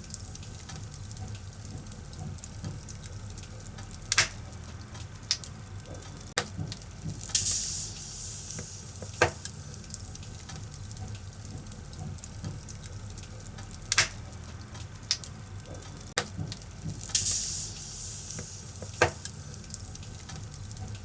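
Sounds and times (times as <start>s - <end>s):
fire hissing and rumbling: 0.0s - 21.0s
firewood crackling and popping: 0.0s - 21.0s.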